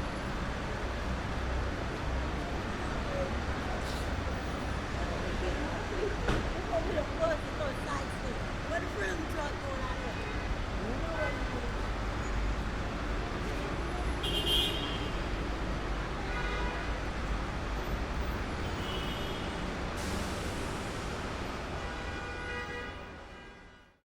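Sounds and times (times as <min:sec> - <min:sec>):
traffic rumble: 0:00.0 - 0:23.5.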